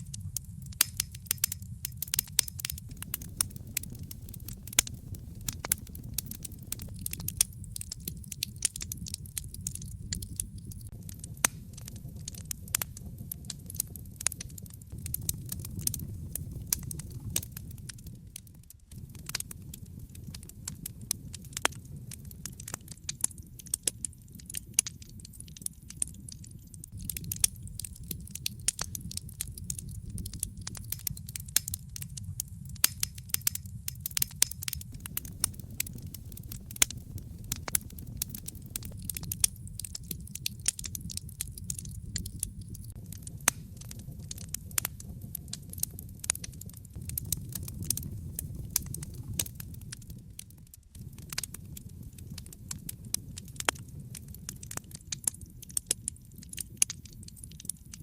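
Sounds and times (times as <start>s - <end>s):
fire pops and snaps: 0.0s - 58.0s
low rumble of flames: 0.0s - 58.0s.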